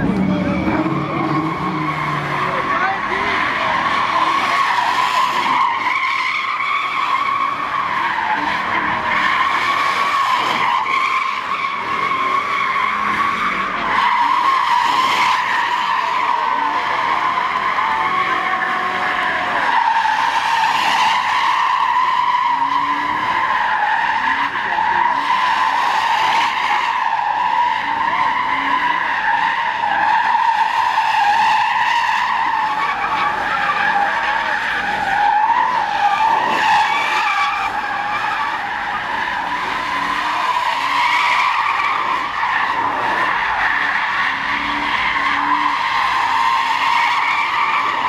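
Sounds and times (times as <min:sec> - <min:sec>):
truck tires squealing: 0:00.0 - 0:48.0.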